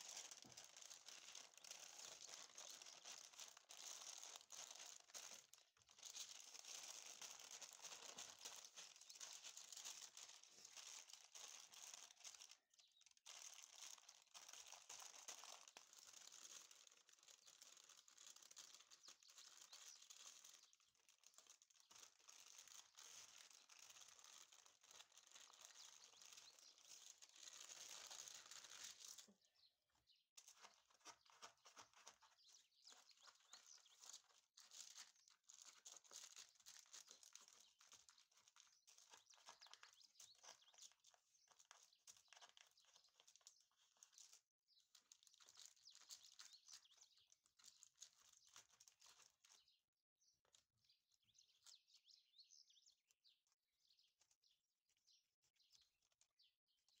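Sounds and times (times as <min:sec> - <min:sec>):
baking paper crinkling and rustling: 0:00.0 - 0:29.5, 0:30.4 - 0:49.8.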